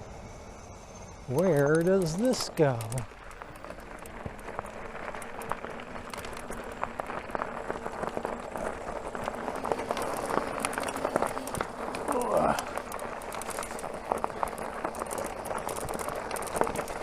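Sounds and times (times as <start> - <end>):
bicycle tyres rolling on trail: 0.0 - 17.0
bicycle clicks and rattles: 1.3 - 17.0.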